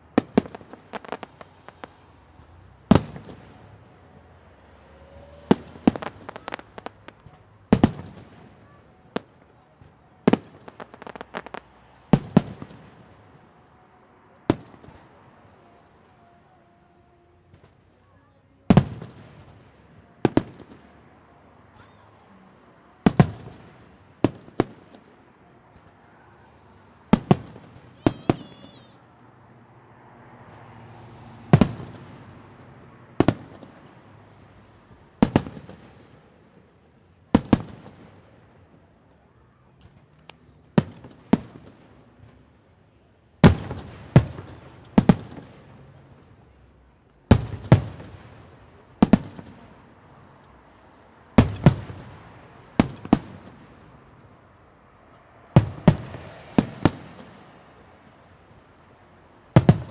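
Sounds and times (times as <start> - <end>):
fireworks bursting: 0.0 - 13.6, 14.3 - 18.0, 18.7 - 29.0, 30.8 - 38.9, 39.8 - 42.6, 43.4 - 46.7, 47.3 - 59.9.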